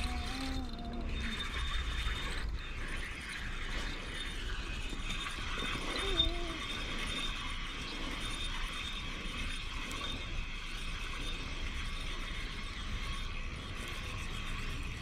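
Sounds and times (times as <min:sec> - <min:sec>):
fishing reel being wound: 0:00.0 - 0:15.0.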